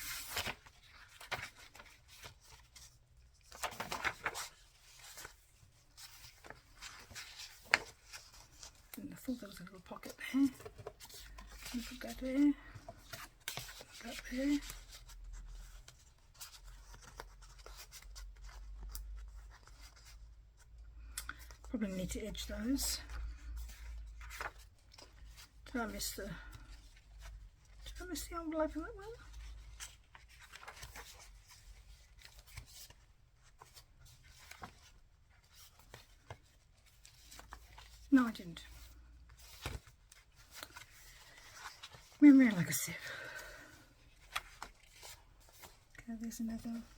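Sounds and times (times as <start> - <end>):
paper rustling: 0.0 - 20.7, 21.3 - 46.9.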